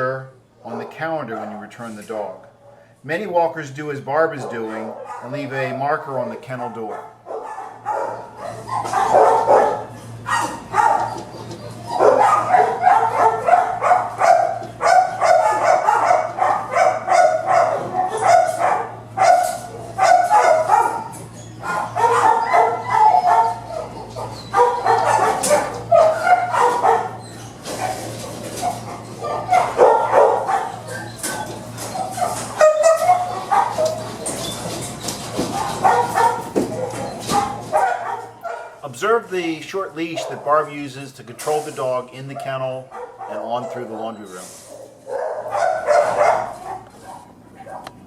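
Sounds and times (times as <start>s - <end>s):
dogs barking: 0.6s - 1.6s, 4.2s - 6.0s, 6.8s - 38.9s, 39.9s - 40.9s, 42.3s - 48.0s.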